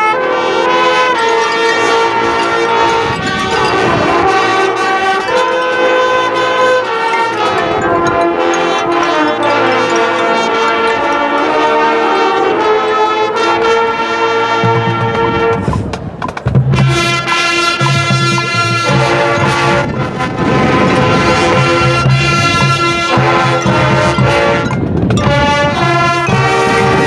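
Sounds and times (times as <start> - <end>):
brass sustained chords: 0.0 - 15.8, 16.7 - 27.0
marching band playing: 0.0 - 27.0
percussion hits: 0.6 - 12.5, 14.6 - 27.0.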